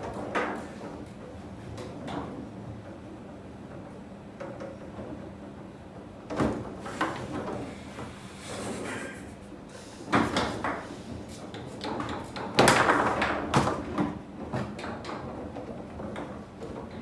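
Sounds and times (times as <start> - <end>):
foosball knocks and bangs: 0.0 - 8.2, 10.1 - 11.0, 11.6 - 17.0.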